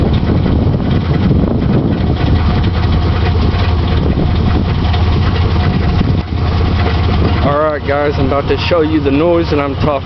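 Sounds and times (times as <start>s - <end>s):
car engine idling: 0.0s - 10.0s
engine rattling: 0.0s - 10.0s.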